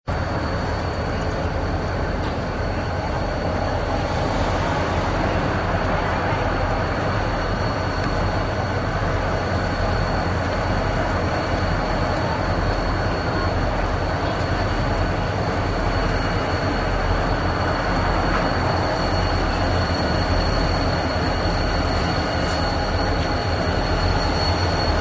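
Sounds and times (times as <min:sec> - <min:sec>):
diesel locomotive engine rumble: 0:00.0 - 0:25.0
rail noise: 0:00.0 - 0:25.0.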